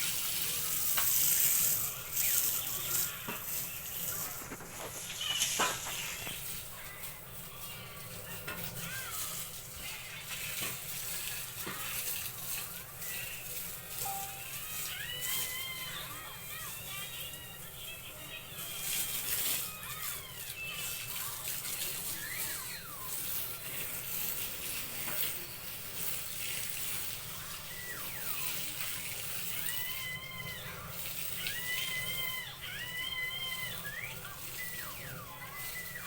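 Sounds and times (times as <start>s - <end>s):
steady noisy background: 0.0s - 36.0s.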